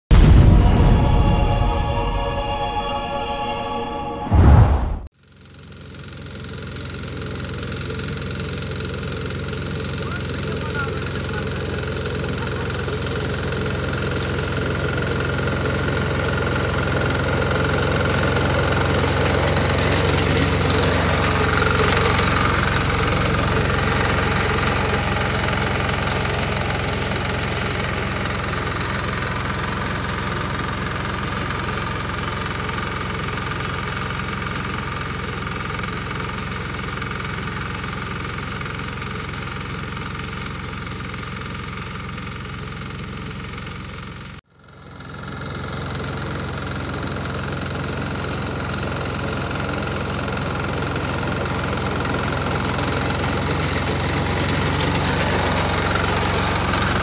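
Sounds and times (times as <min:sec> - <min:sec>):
tiller engine running: 0:00.2 - 0:04.2, 0:05.3 - 0:57.0.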